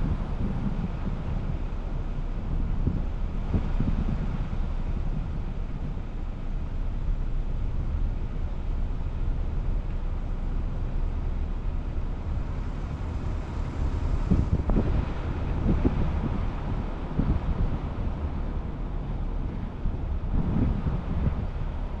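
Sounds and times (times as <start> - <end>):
car driving on paved road: 0.0 - 22.0
wind buffeting microphone: 0.0 - 22.0.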